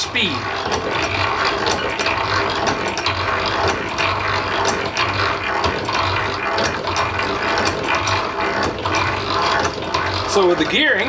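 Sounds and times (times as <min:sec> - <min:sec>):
hand-cranked drill gears clicking: 0:00.0 - 0:11.0.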